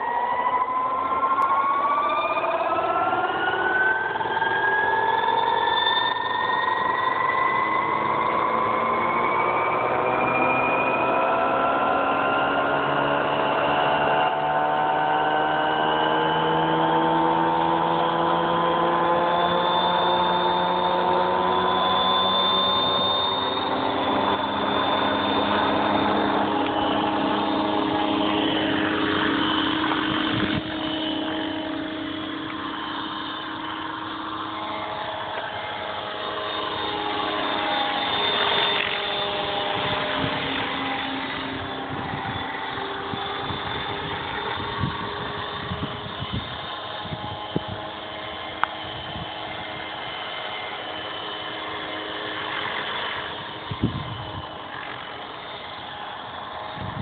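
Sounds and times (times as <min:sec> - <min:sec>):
rc helicopter rotor whining: 0:00.0 - 0:57.0.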